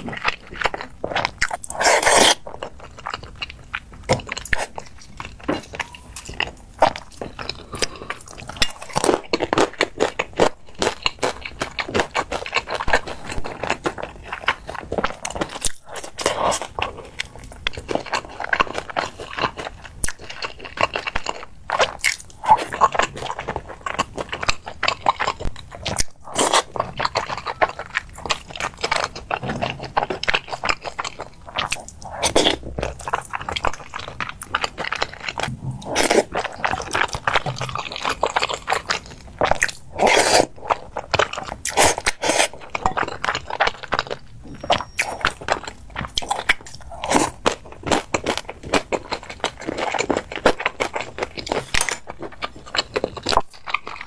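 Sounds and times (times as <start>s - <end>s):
chewing crisp food: 0.0s - 54.0s.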